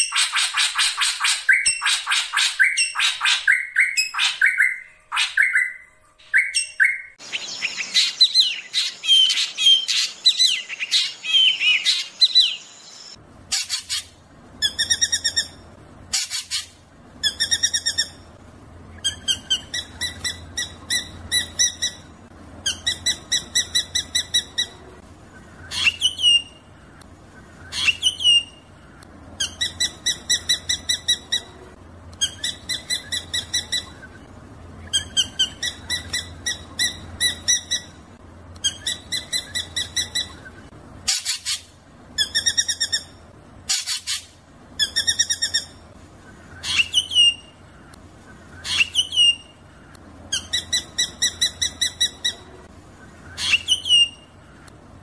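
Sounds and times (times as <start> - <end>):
bird song with trills: 0.0 - 54.7
faint low hum: 0.0 - 55.0.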